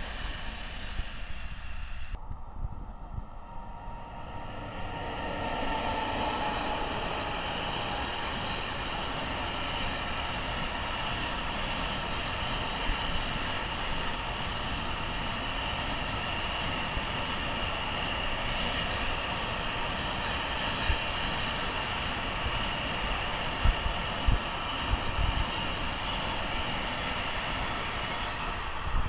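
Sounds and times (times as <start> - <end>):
steady high whine: 0.0 - 29.0
train mechanical rumble: 0.0 - 29.0.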